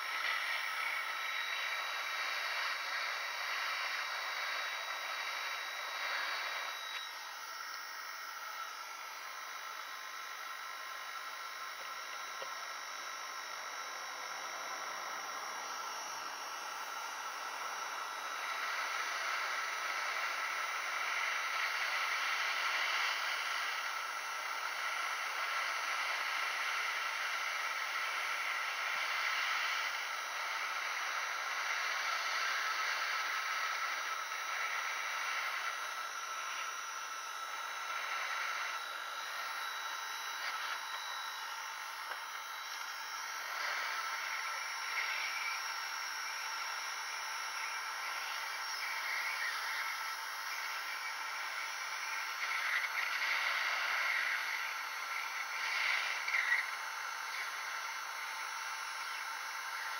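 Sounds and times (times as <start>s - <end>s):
faint fan whine: 0.0s - 59.9s
heat gun air hissing: 0.0s - 59.9s.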